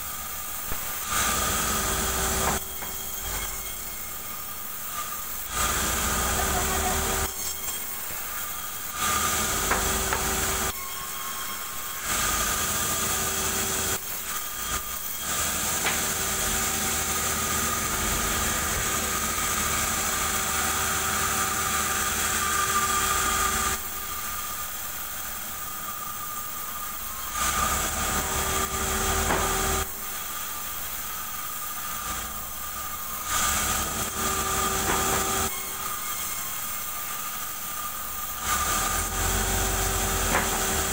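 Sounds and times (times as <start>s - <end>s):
bandsaw cutting wood: 0.7s - 3.7s, 5.5s - 10.8s, 12.0s - 24.6s, 27.2s - 30.2s, 31.9s - 40.9s.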